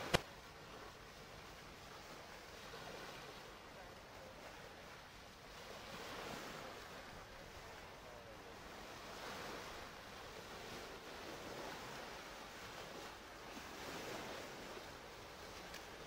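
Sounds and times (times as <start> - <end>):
small waves washing ashore: 0.0 - 16.0.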